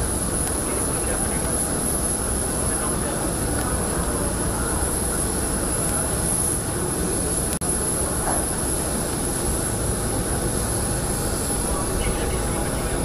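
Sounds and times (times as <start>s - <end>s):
high steady whine: 0.0s - 13.0s
jet engines roaring: 0.0s - 13.0s.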